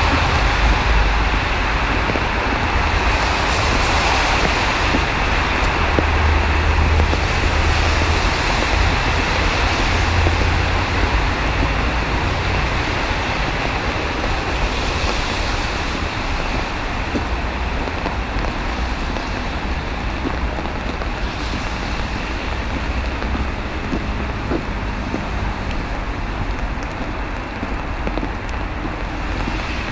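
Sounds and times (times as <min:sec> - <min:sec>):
low rumble: 0:00.0 - 0:29.9
traffic hissing on wet roads: 0:00.0 - 0:29.9.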